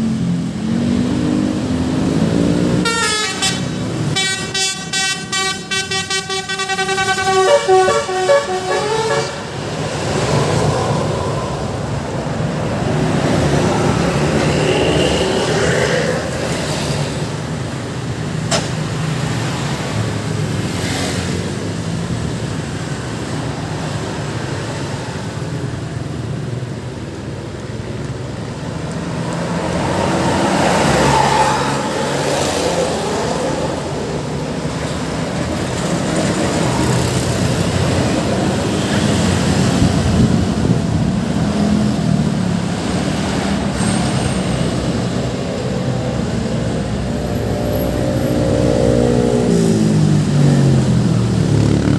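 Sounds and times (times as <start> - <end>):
road traffic passing: 0.0 - 51.9.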